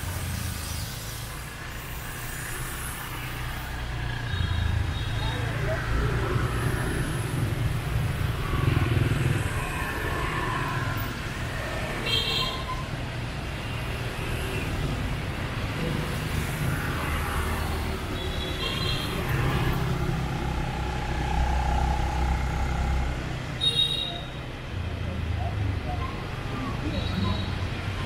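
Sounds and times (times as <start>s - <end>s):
motorcycle engines humming: 2.5s - 28.0s.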